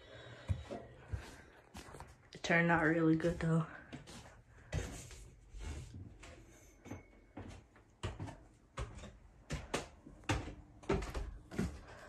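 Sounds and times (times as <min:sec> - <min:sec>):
footsteps climbing indoor stairs: 0:00.0 - 0:12.0.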